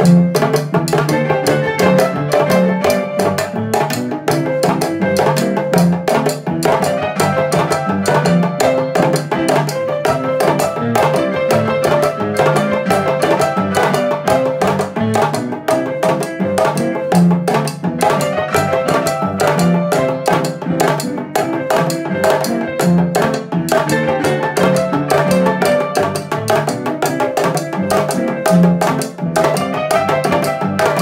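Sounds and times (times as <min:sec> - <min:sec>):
hand drum beaten with sticks: 0:00.0 - 0:31.0.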